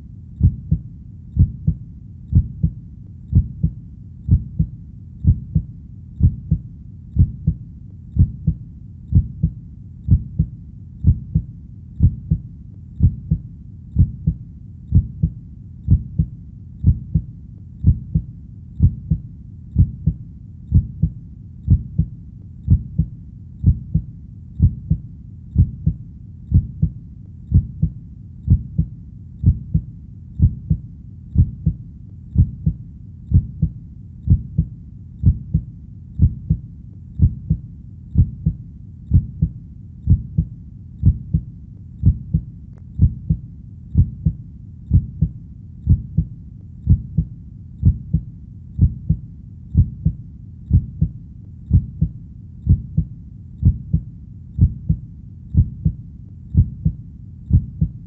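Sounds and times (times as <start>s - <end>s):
faint steady background: 0.0s - 58.0s
heartbeat thumping: 0.4s - 13.4s, 14.0s - 58.0s.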